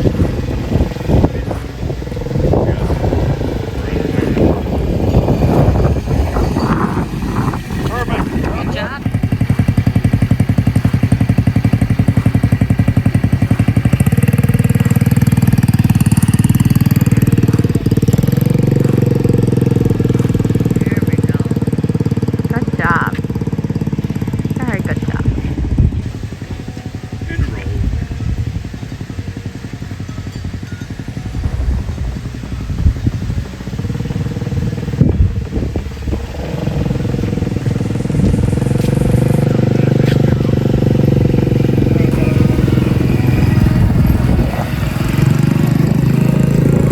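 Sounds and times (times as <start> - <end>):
small engine puttering: 0.0 - 46.9.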